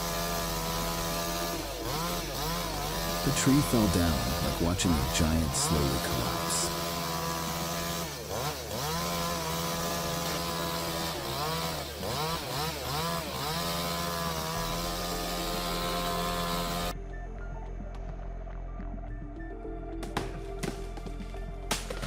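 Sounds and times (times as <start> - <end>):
chainsaw running at high revs: 0.0 - 17.0, 20.1 - 21.1.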